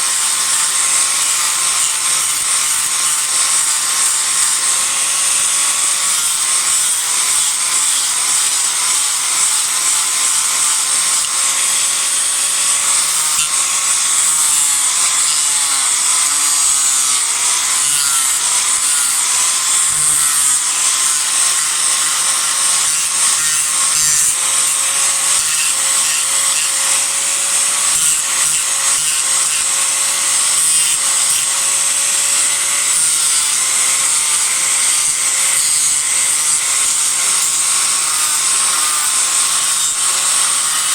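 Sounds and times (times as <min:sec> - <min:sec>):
disc grinder cutting wood: 0:00.0 - 0:40.9.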